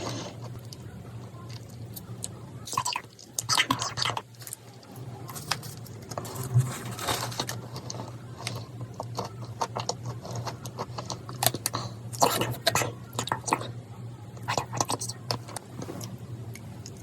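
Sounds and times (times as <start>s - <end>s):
soft wet chewing: 0.0s - 6.6s, 7.3s - 17.0s
faint low hum: 0.0s - 17.0s.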